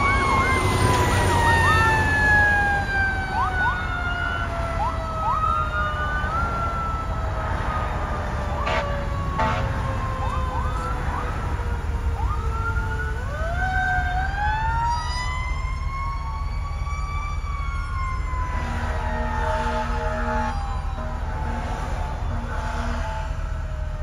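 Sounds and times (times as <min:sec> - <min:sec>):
fire engine sirens wailing: 0:00.0 - 0:24.0.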